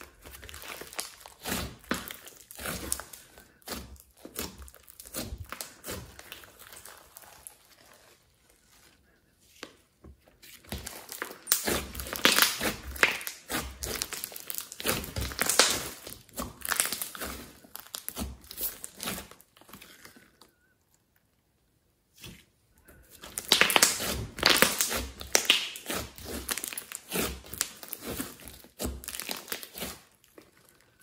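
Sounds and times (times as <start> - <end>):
slime squishing: 0.0 - 21.2, 22.0 - 31.0.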